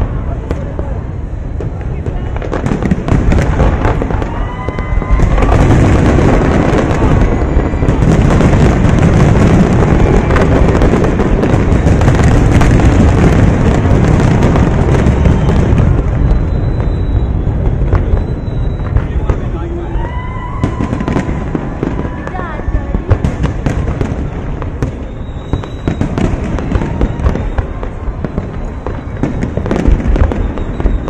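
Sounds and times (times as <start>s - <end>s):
fireworks booming and crackling: 0.0s - 31.0s.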